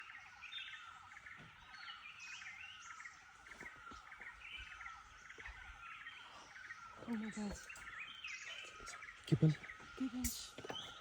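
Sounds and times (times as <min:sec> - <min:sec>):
chorus of birds chirping: 0:00.0 - 0:11.0.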